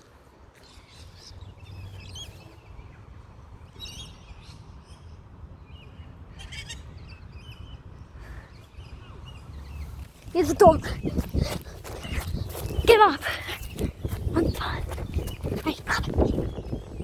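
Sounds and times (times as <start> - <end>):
birds chirping: 0.6 - 17.0.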